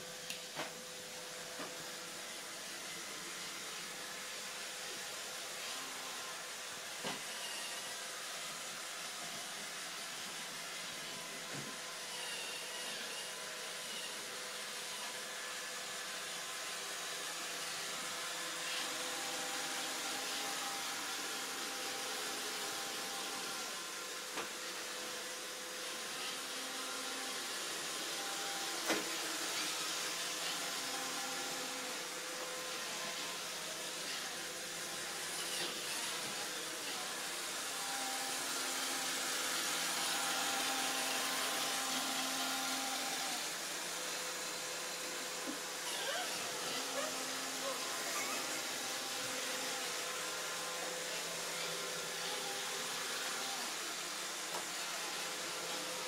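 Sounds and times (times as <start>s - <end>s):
robot vacuum cleaner whirring: 0.0s - 56.0s.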